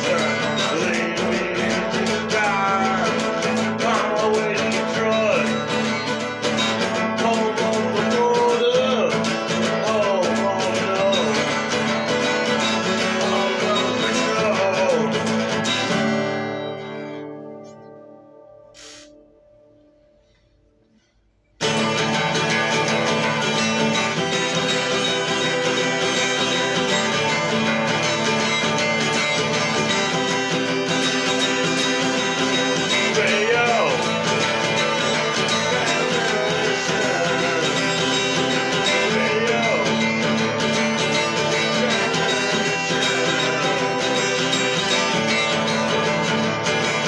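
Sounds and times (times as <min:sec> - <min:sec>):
man singing: 0:00.0 - 0:17.0, 0:21.6 - 0:47.0
acoustic guitar strumming: 0:00.0 - 0:47.0.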